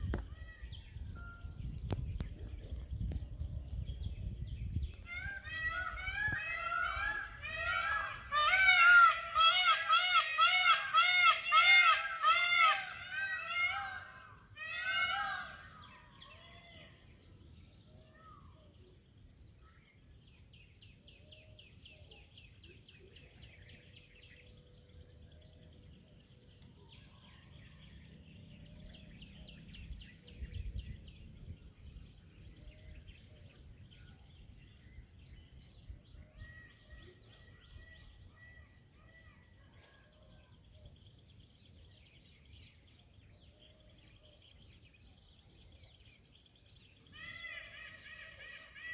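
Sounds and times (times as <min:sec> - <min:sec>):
small birds chirping in trills: 0:00.0 - 0:48.9.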